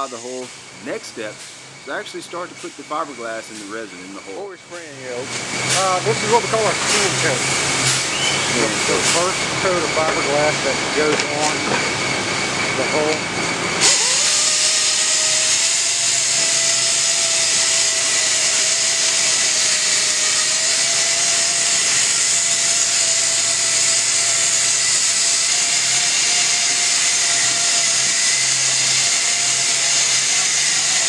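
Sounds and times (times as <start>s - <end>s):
chopper gun spraying hiss: 0.0s - 11.6s, 13.8s - 31.0s
steady whine: 0.0s - 31.0s.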